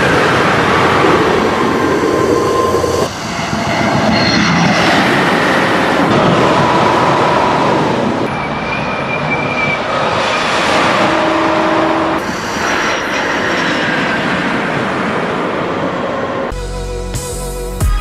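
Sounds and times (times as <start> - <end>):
high-speed train rushing: 0.0 - 16.5.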